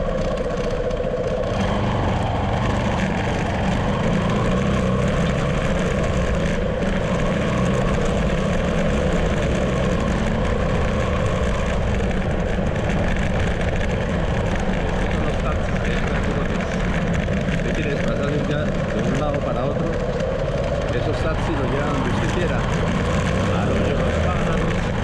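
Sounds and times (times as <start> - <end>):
steady engine drone: 0.0 - 25.0.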